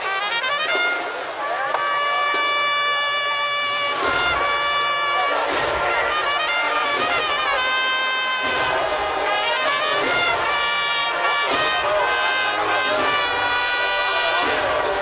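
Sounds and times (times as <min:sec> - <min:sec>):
brass band playing march: 0:00.0 - 0:15.0.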